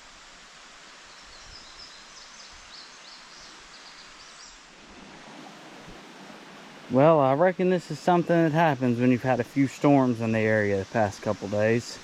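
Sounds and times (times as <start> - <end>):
woodland ambience hiss: 0.0 - 12.0.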